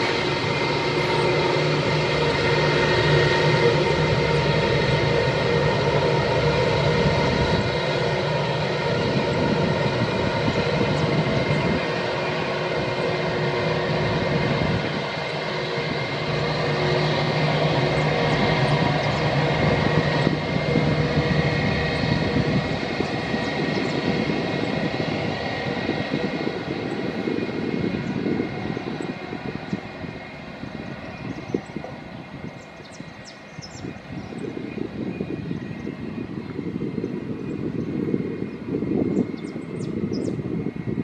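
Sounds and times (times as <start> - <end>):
jet engines whining: 0.0 - 41.0.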